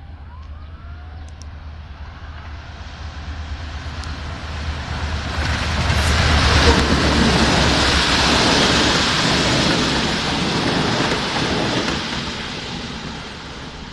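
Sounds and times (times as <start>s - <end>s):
train passing rumble: 0.0s - 13.9s.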